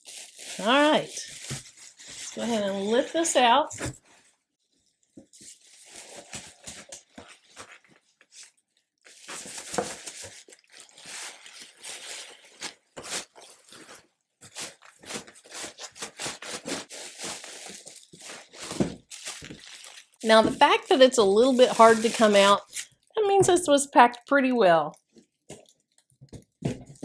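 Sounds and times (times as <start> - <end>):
plastic wrapping crinkling: 0.0 - 23.1, 24.9 - 27.0.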